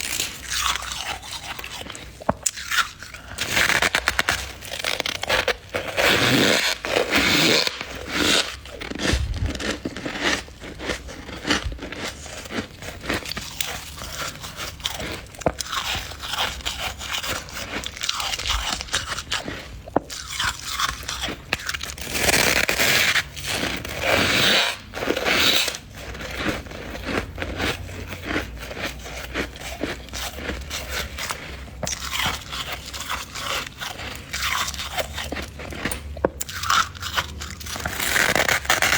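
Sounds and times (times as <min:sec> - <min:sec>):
chewing crunchy frost: 0:00.0 - 0:38.9.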